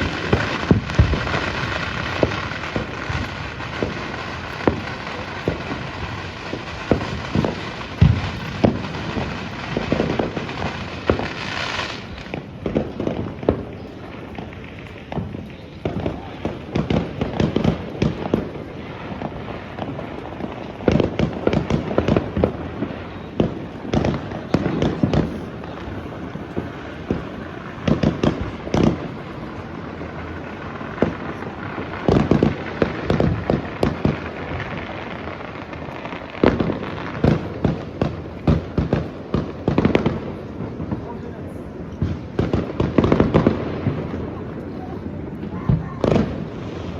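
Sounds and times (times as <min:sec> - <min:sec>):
distant explosions: 0:00.0 - 0:46.9
fireworks bangs and crackles: 0:00.0 - 0:46.9.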